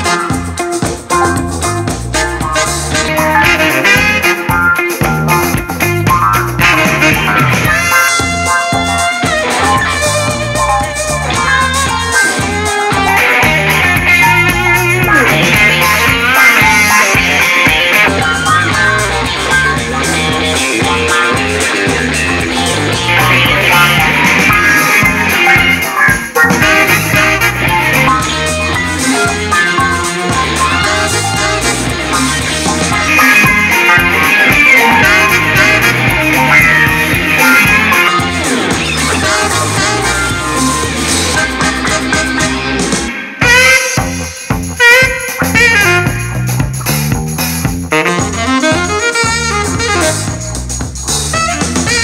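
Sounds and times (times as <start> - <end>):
rock music with guitar and drums: 0.0 - 52.0.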